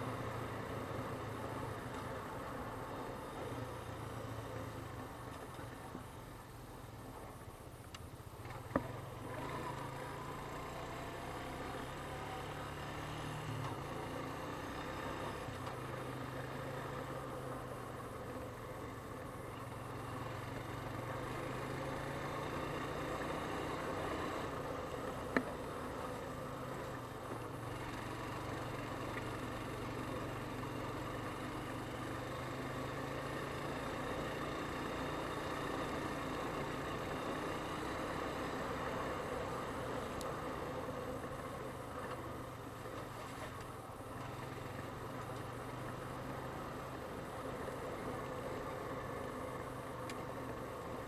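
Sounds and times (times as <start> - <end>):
quad bike engine running: 8.4 - 51.0.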